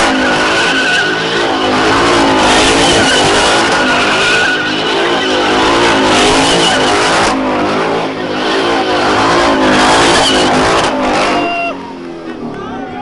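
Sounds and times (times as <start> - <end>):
car engine at high revs: 0.0 - 13.0
tires squealing: 0.0 - 13.0.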